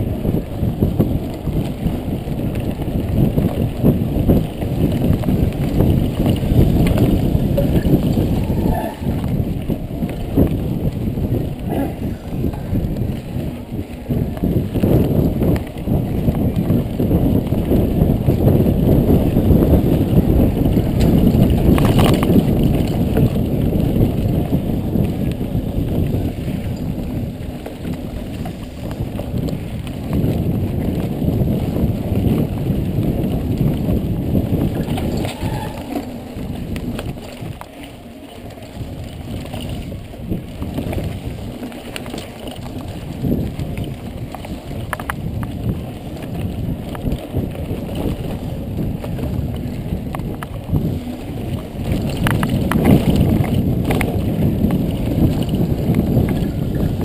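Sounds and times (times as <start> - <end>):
bike rattling: 0.0 - 57.0
bike tyres rumbling over dirt: 0.0 - 57.0
wind on microphone: 0.0 - 57.0.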